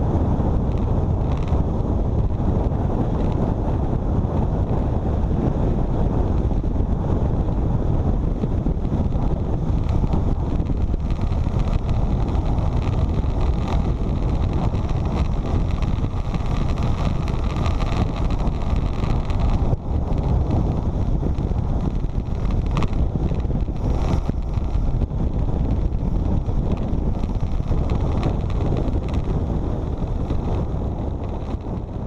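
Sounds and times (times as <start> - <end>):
motorcycle engine and road noise: 0.0 - 32.0
wind buffeting microphone: 0.0 - 32.0.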